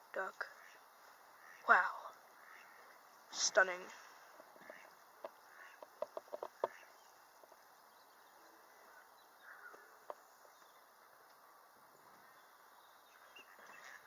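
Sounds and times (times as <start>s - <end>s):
low background hiss: 0.0s - 14.0s
faint bird calls: 0.5s - 3.2s, 4.0s - 11.2s, 11.9s - 14.0s.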